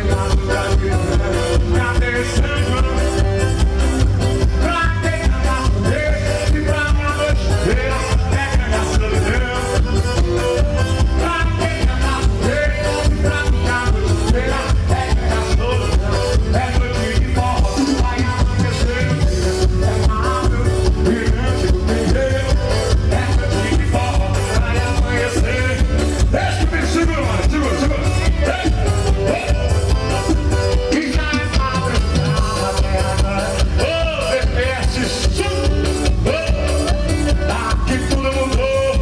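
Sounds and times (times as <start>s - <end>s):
forro music with singer: 0.0s - 39.0s.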